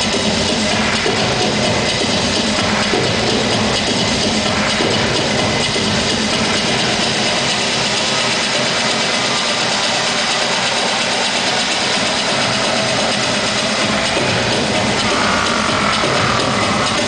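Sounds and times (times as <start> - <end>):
loud distorted house music: 0.0 - 17.0.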